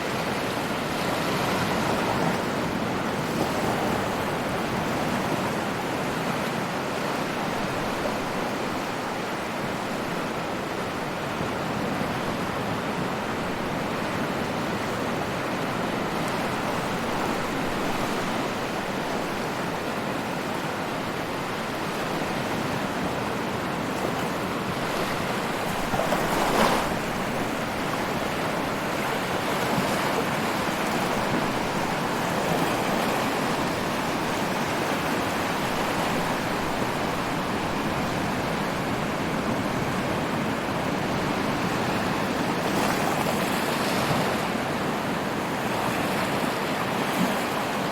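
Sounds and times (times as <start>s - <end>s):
ocean surf washing: 0.0s - 47.9s.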